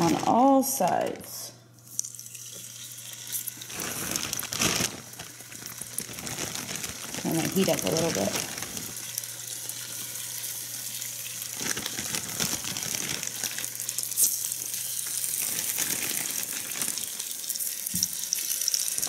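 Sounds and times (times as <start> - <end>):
chicken sizzling in hot oil: 2.0 - 19.0.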